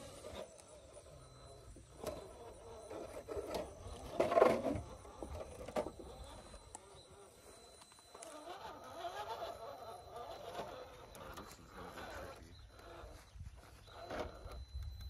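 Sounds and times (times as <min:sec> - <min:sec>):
electric motor whir: 0:00.0 - 0:15.0.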